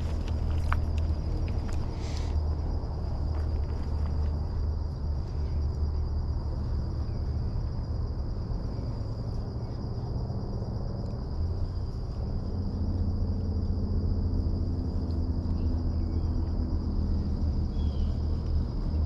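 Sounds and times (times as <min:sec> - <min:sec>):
crickets chirring: 0:00.0 - 0:19.0
low steady rumble: 0:00.0 - 0:19.0.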